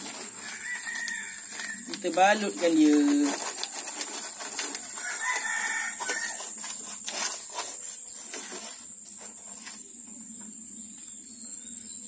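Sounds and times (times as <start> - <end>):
cardboard rustling and clicking: 0.0 - 9.8.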